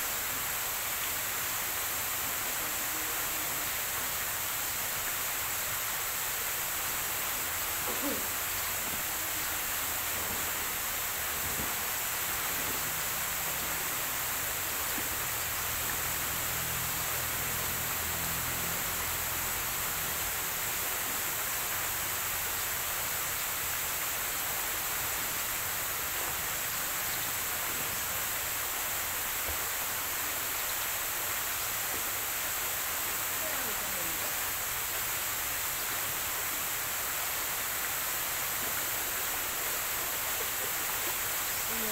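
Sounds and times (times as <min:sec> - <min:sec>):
outdoor ambience hiss: 0:00.0 - 0:41.9.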